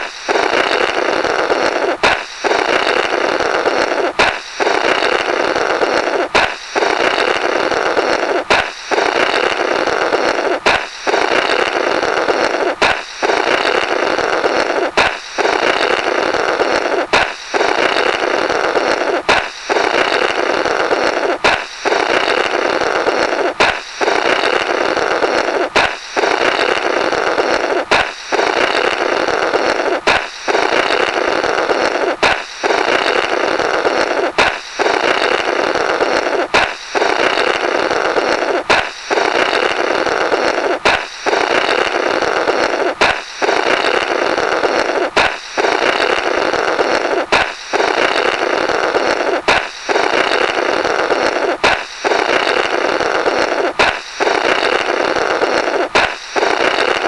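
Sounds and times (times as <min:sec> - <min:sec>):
balloon popping: 0:00.0 - 0:57.0
blowing through balloon rubber: 0:00.0 - 0:57.0.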